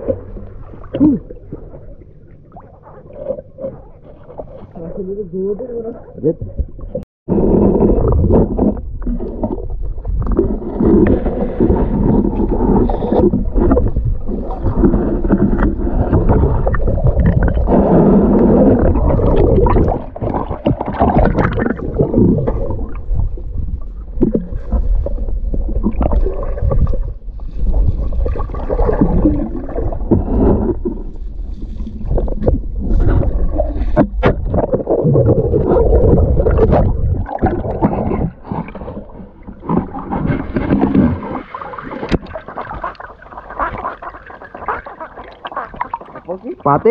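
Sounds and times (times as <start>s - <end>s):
muffled underwater river gurgling: 0.0s - 46.9s.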